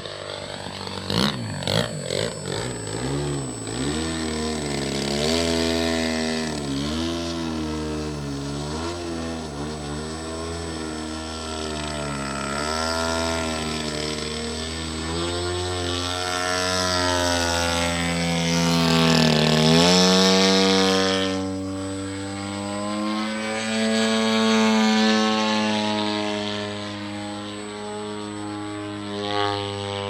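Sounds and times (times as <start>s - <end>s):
model airplane engine in flight: 0.0s - 30.0s.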